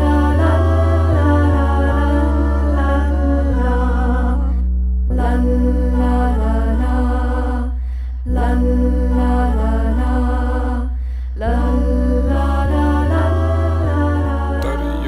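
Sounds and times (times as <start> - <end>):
heavy sustained bass: 0.0 - 15.0.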